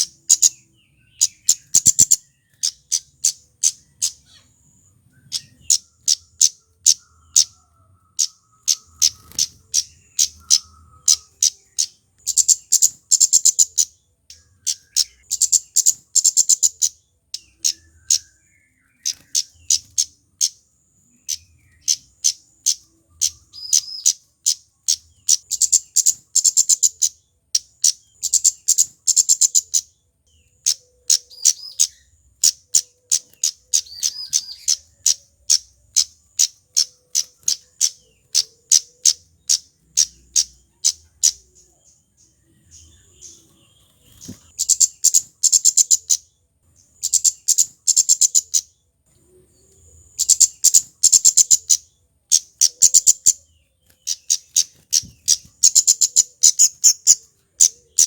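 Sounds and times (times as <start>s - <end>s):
bird singing high sharp notes: 0.0s - 48.8s, 49.6s - 58.0s.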